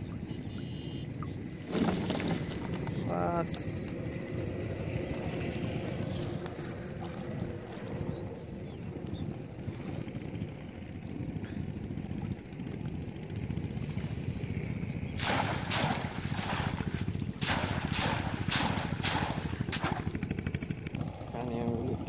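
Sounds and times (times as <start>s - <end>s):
rhythmic splashes in shallow water: 0.0s - 20.9s
wind rumble on microphone: 1.1s - 22.0s.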